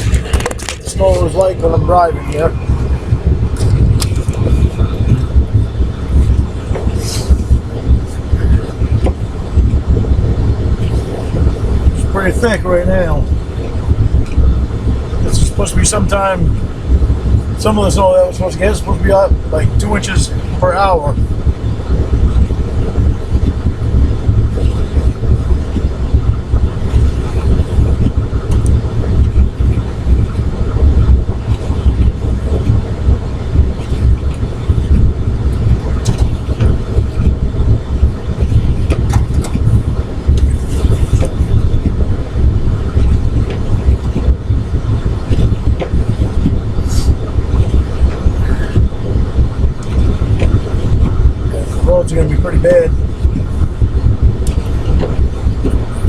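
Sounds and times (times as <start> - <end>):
car interior road rumble: 0.0 - 56.0.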